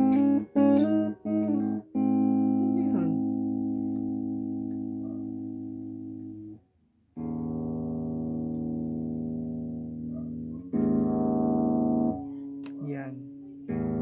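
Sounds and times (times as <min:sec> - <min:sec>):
electric guitar chords strummed: 0:00.0 - 0:06.6, 0:07.2 - 0:14.0.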